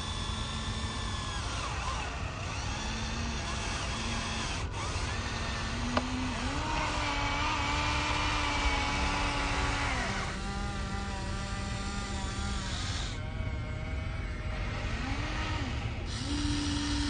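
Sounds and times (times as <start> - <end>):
geared electric motors whining: 0.0 - 17.0.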